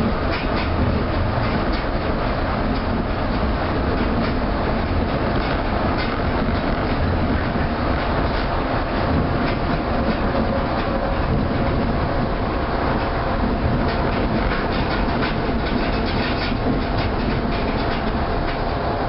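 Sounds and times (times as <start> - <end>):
train rolling rumble: 0.0 - 19.0.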